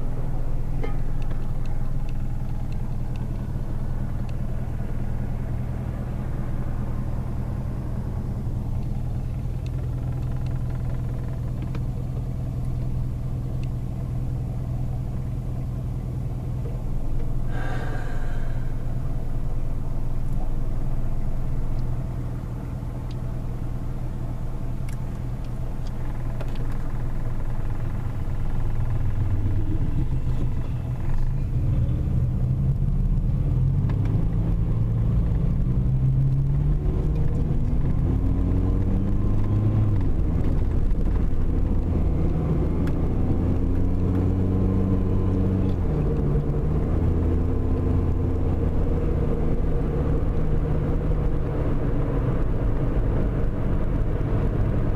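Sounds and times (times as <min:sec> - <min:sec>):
car engine accelerating: 0:00.0 - 0:54.9
road noise inside car: 0:00.0 - 0:54.9.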